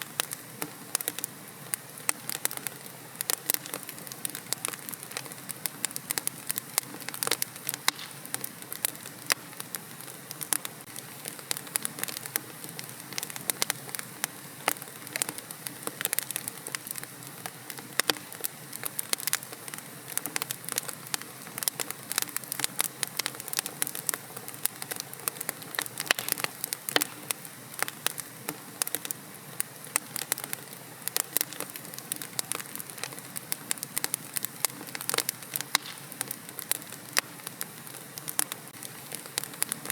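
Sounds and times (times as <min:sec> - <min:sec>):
soft steady hiss: 0:00.0 - 0:39.9
wood fire crackling and popping: 0:00.0 - 0:39.9.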